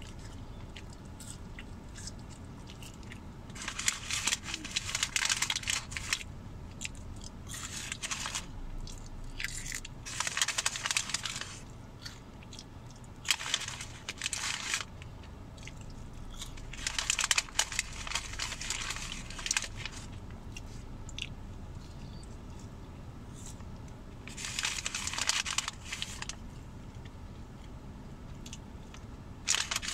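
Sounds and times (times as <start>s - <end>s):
person chewing crunchy fries: 0.0s - 29.9s.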